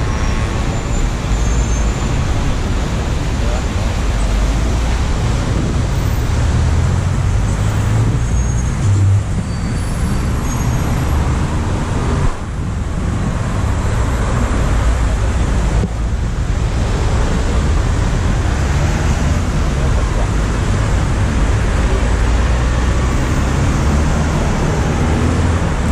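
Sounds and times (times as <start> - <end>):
car road noise rumble: 0.0 - 25.9.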